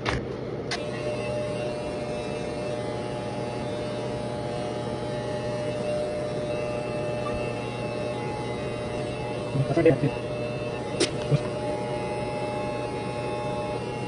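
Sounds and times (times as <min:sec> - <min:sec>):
electric hair clippers humming: 0:00.0 - 0:14.0.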